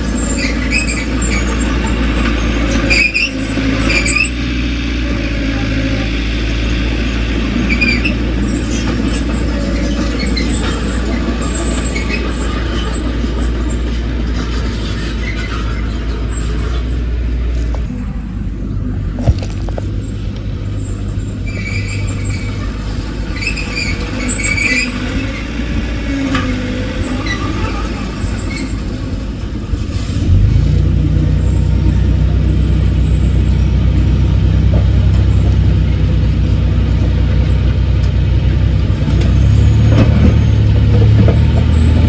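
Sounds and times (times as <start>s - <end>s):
high squeaks: 0.0s - 17.8s, 19.5s - 42.0s
heavy diesel engine revving: 0.0s - 42.0s.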